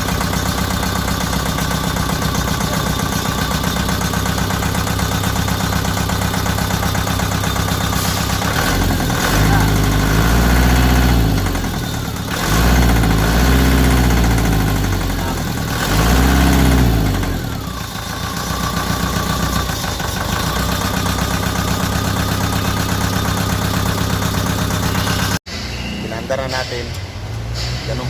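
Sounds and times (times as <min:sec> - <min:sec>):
diesel engine revving and idling: 0:00.0 - 0:25.4.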